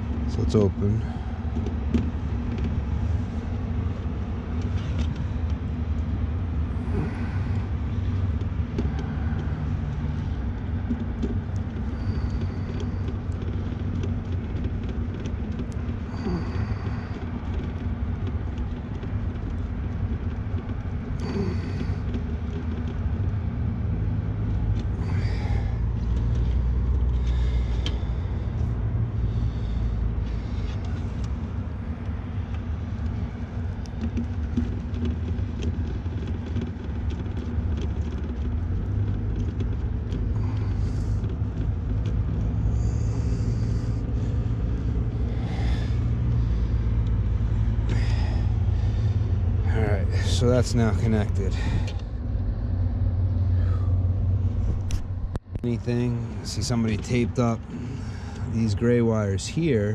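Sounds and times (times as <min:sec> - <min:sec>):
light clicks and rustles: 0:00.0 - 0:59.9
steady low rumble: 0:00.0 - 0:59.9.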